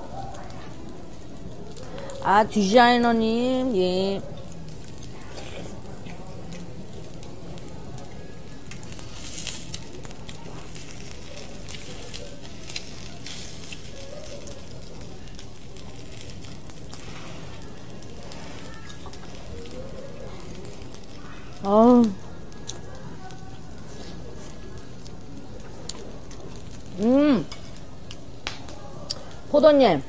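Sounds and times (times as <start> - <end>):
food sizzling on a hot pan: 0.0 - 30.0.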